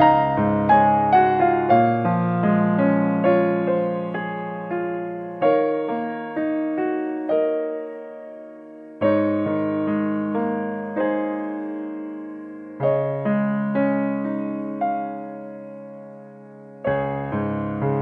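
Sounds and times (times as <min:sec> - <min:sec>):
solo piano chords: 0:00.0 - 0:18.0.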